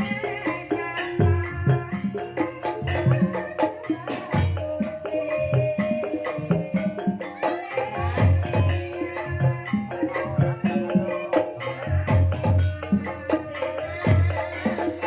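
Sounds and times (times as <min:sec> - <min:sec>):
gamelan music over loudspeakers: 0:00.0 - 0:15.0.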